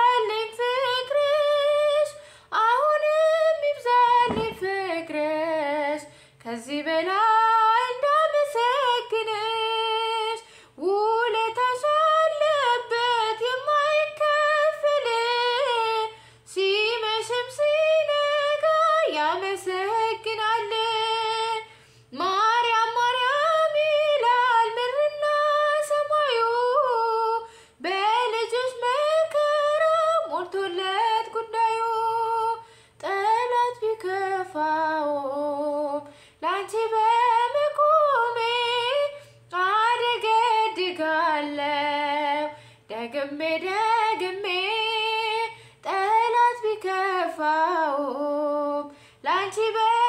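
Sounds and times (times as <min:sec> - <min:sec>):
woman singing unaccompanied: 0:00.0 - 0:50.0.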